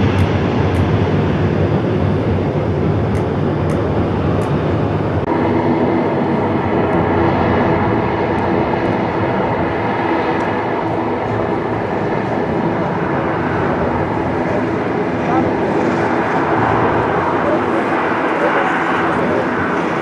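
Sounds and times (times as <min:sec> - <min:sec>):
distant jet engines roaring: 0:00.0 - 0:20.0
low flying jet engine whine: 0:00.0 - 0:20.0.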